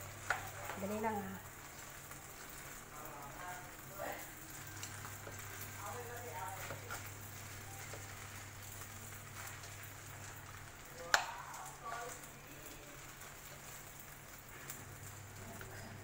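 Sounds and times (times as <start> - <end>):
noodles sizzling in a wok: 0.0 - 16.0.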